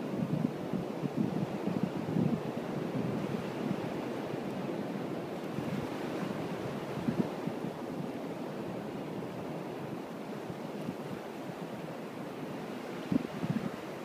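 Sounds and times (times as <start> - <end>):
wind buffeting microphone: 0.0 - 11.8, 12.5 - 14.0
surf breaking on shore: 0.1 - 14.0.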